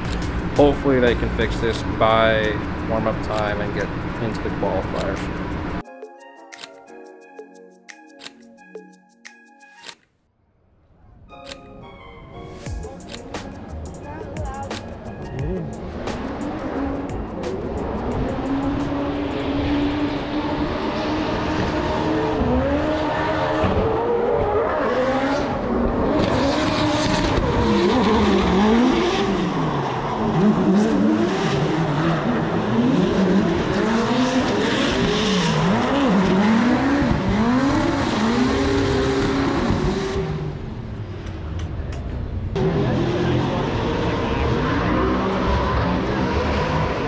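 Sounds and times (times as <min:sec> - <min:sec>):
car engines revving: 0:00.0 - 0:05.8, 0:13.1 - 0:47.0.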